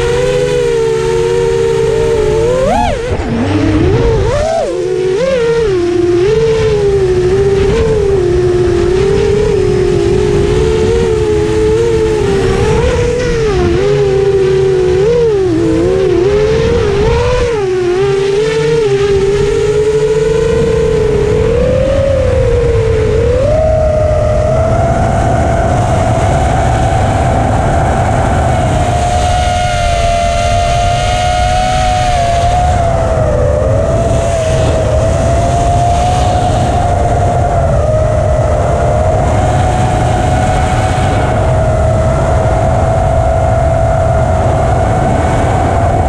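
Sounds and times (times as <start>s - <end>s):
drone motors buzzing whine: 0.0s - 46.0s.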